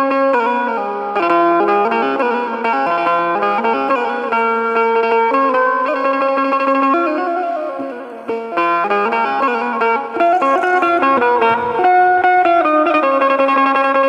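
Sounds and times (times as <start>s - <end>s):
banjo melody: 0.0s - 14.0s.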